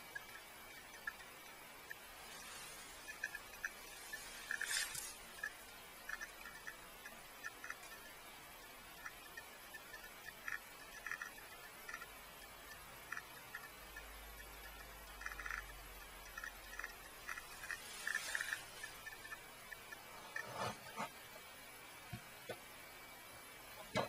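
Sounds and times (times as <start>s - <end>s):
geiger counter clicking: 0.0s - 21.1s.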